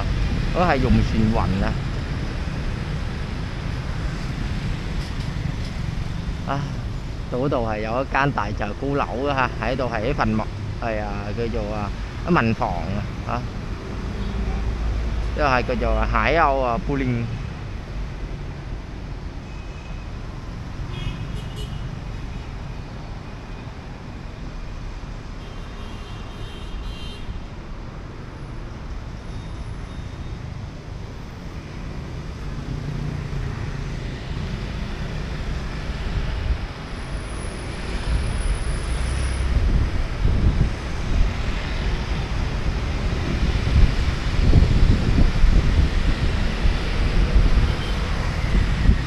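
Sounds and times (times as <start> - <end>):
street traffic noise: 0.0 - 49.0.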